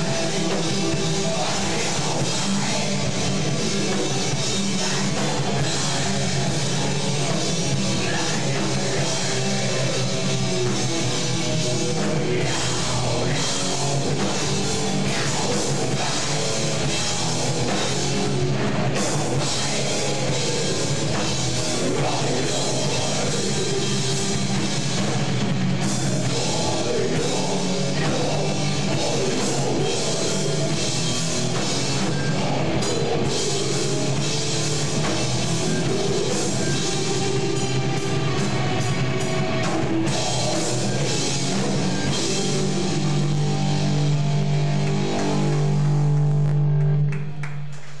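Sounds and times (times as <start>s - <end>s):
drum kit pounding: 0.0s - 47.9s
distorted electric guitars: 0.0s - 48.0s.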